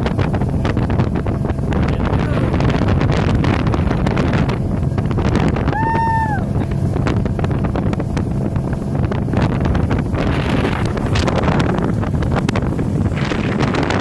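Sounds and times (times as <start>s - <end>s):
boat engine rumble: 0.0s - 14.0s
boat wake: 0.0s - 14.0s
wind buffeting microphone: 0.0s - 14.0s.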